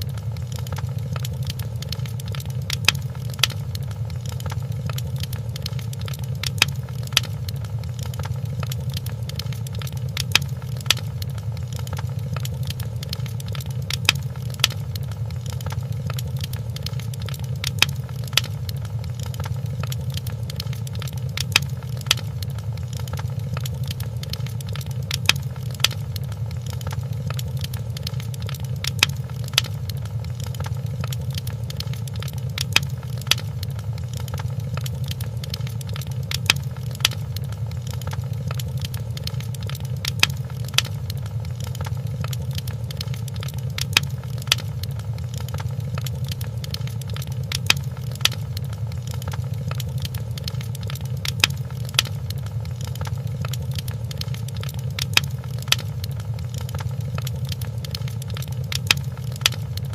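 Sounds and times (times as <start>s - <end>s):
fire pops: 0.0s - 59.9s
wood fire crackling: 0.0s - 59.9s.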